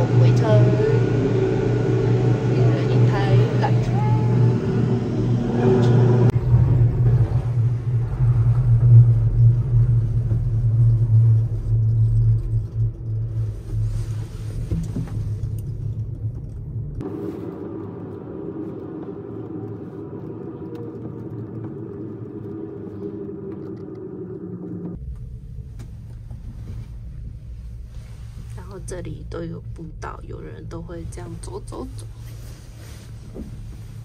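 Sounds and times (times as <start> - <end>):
gondola cabin rumbling: 0.0 - 34.0
steady hum: 0.0 - 34.0.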